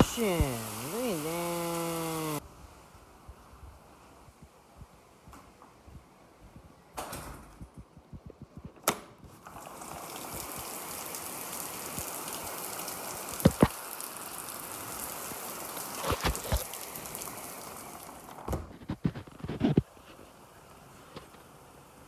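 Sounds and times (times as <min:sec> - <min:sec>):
heavy rain hissing: 0:00.0 - 0:05.2, 0:09.5 - 0:22.0.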